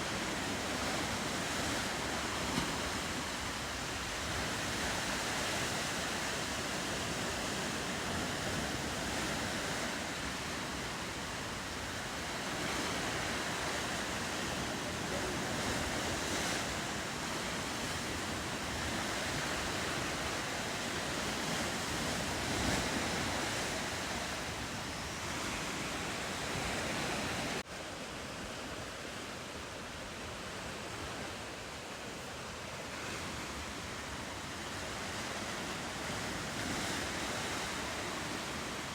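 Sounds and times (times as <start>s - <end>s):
ocean surf washing: 0.0s - 38.9s.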